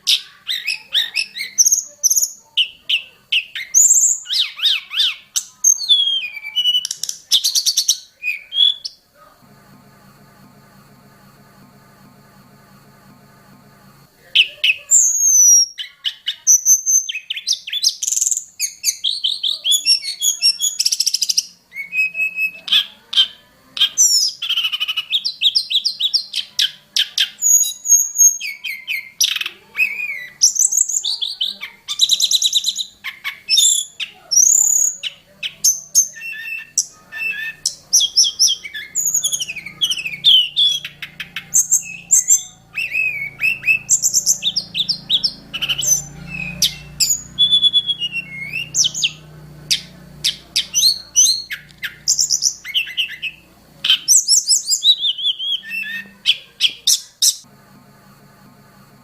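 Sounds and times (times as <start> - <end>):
bird song: 0.0 - 9.1, 14.4 - 57.5.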